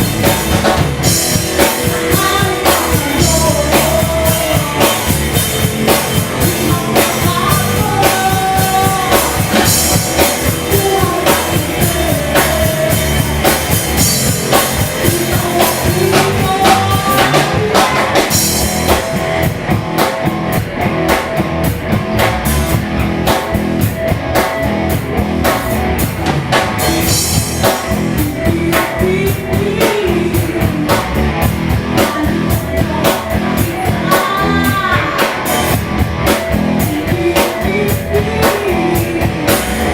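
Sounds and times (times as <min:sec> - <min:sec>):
person singing lead vocal: 0:00.0 - 0:19.6, 0:27.1 - 0:39.9
drum kit beat: 0:00.0 - 0:39.9
guitars: 0:00.0 - 0:39.9.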